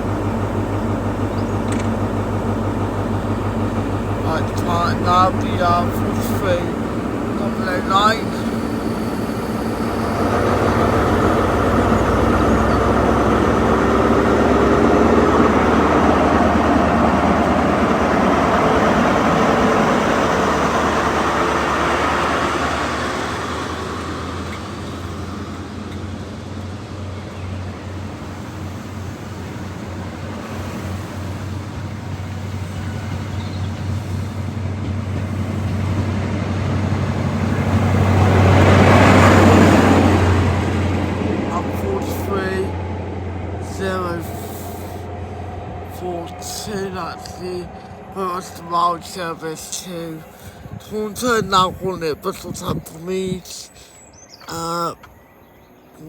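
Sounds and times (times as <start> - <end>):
diesel train engine working hard: 0.0 - 56.0
train noise: 0.0 - 56.0.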